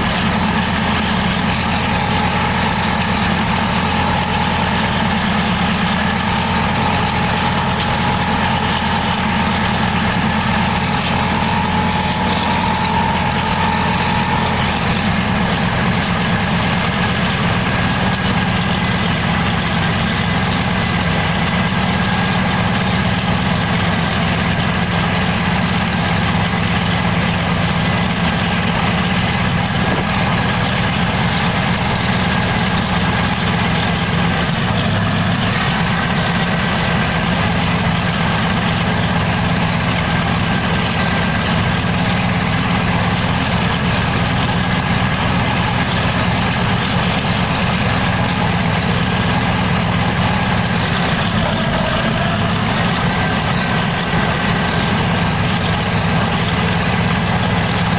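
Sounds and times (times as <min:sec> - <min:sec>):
radial aero engine running: 0:00.0 - 0:57.9.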